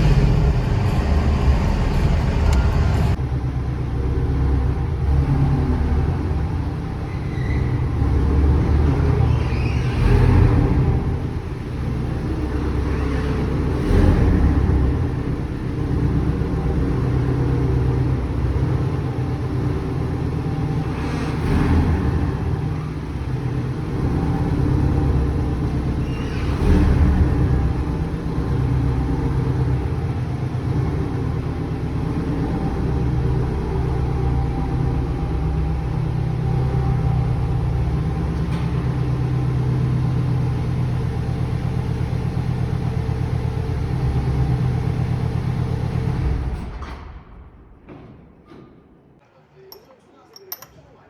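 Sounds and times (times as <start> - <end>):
car engine hum: 0.0 - 9.3, 10.0 - 46.2
road rumble: 0.0 - 46.8.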